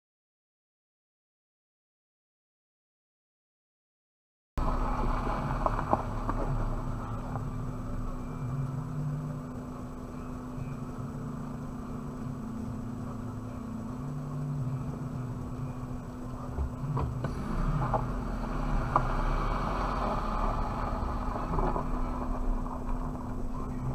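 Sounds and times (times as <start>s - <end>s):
car engine from inside cabin: 4.6s - 23.9s.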